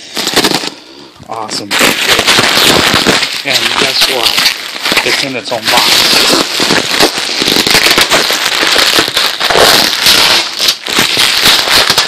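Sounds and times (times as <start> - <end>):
plastic wrap crinkling: 0.1 - 12.0.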